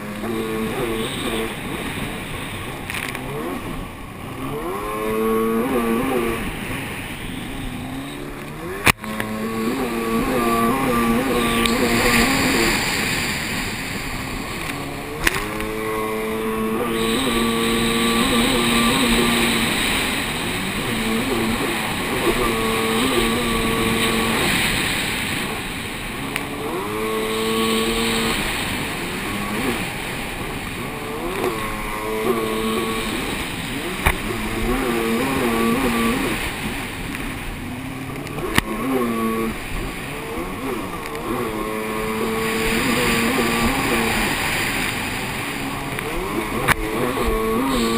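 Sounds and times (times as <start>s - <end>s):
jet ski engine revving: 0.0s - 47.9s
water spray and wind hiss: 9.4s - 47.9s.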